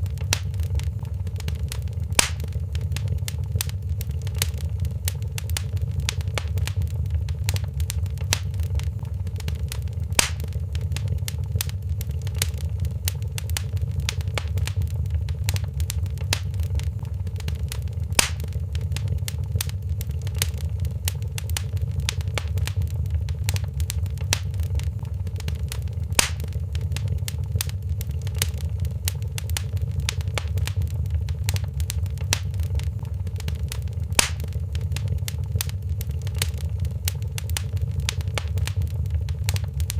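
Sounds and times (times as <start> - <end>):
fireplace fire crackling: 0.0 - 39.9
loud fire pops: 0.0 - 39.9.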